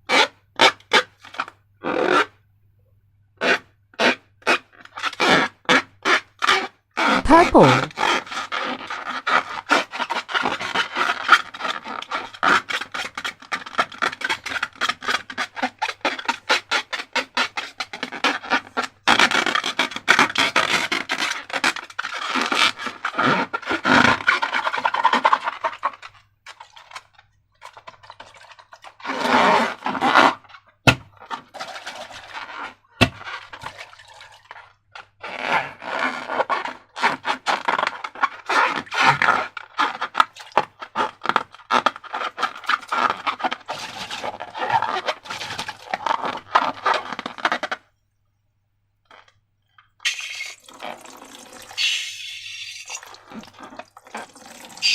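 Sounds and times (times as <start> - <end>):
slime squishing and scraping: 3.4 - 47.8, 50.8 - 54.9.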